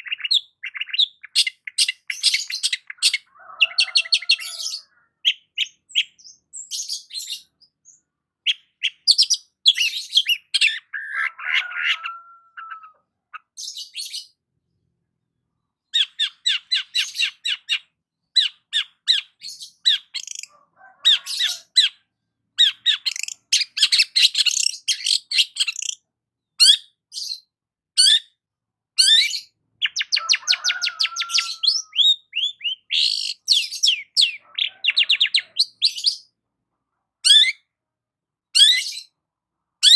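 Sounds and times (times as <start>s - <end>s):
bird chattering song: 0.0s - 14.4s, 15.9s - 20.5s, 21.1s - 22.0s, 22.6s - 27.4s, 29.0s - 36.3s, 37.2s - 37.6s.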